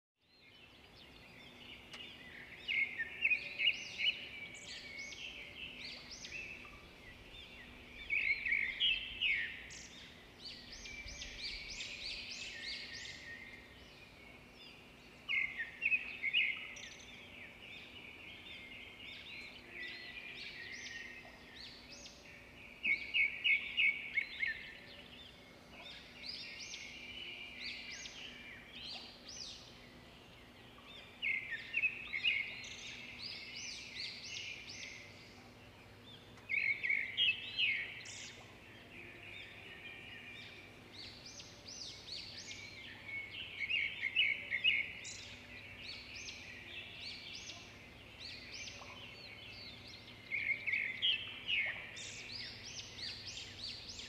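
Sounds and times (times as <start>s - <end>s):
small birds chirping and singing: 0.2s - 54.0s
faint steady hum: 0.5s - 54.0s.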